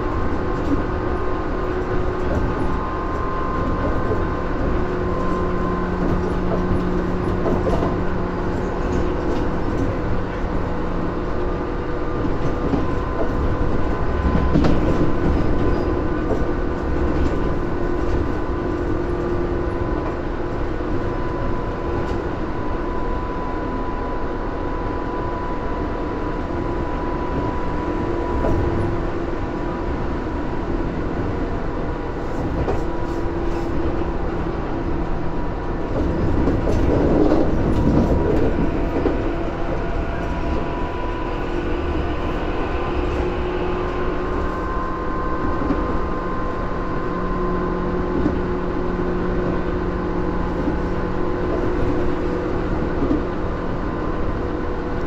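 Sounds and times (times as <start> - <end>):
train rolling noise: 0.0 - 55.0.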